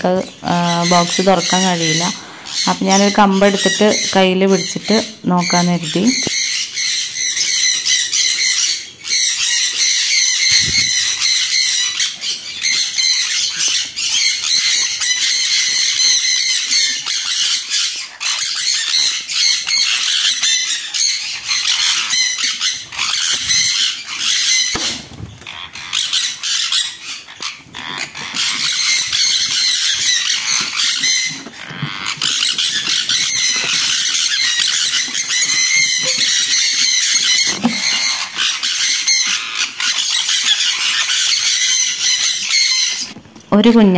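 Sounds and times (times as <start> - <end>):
parrots screeching in alarm: 0.1 - 43.2.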